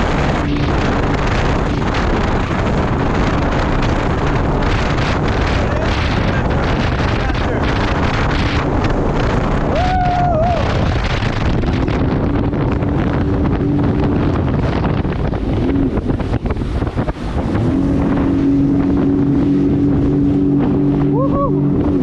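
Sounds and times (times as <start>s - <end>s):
watercraft engine running: 0.0s - 22.0s
wind buffeting microphone: 0.0s - 22.0s.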